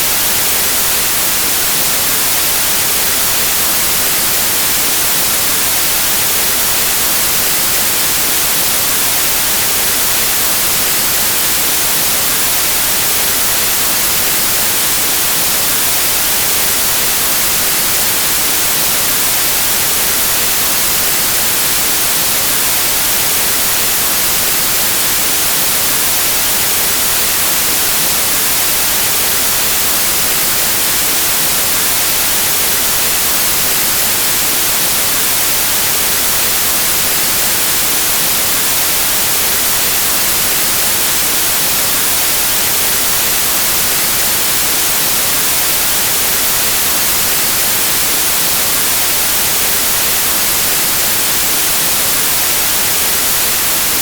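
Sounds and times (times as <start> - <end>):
white noise static hiss: 0.0 - 54.0.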